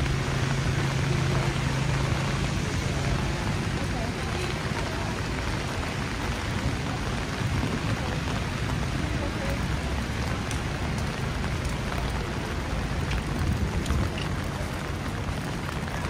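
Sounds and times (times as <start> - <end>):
rain on street: 0.0 - 16.0
vehicle engine hum: 0.0 - 16.0.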